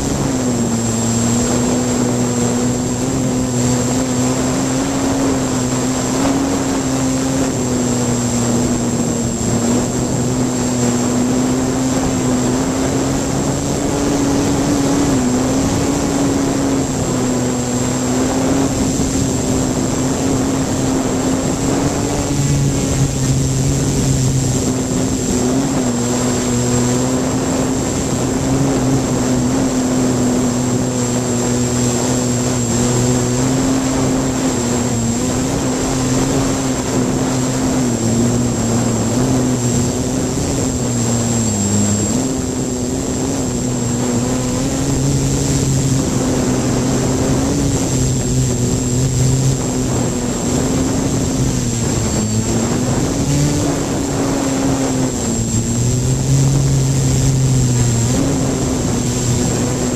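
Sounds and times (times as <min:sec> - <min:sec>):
drone motors buzzing: 0:00.0 - 0:59.9
thin high whine: 0:00.0 - 0:59.9.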